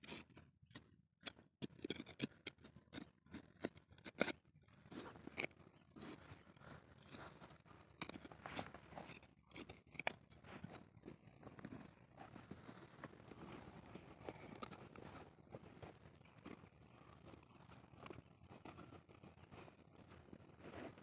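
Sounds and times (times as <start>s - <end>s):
fingers scraping dry soil: 1.6s - 21.0s.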